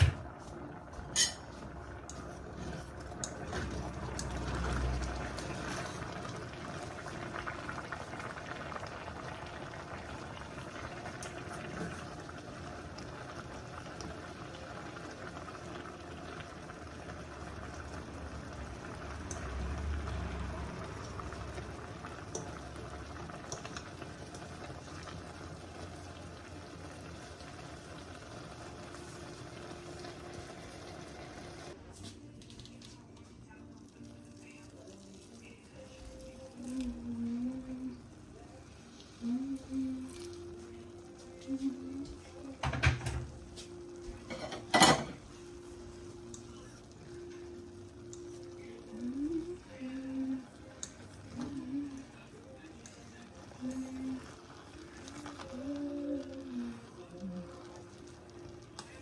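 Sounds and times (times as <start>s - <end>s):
water bubbling in a pot: 0.0s - 31.8s, 41.4s - 59.0s.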